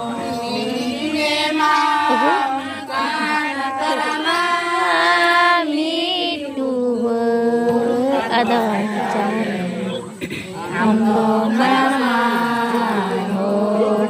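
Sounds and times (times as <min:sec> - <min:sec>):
voices singing long notes: 0:00.0 - 0:14.0.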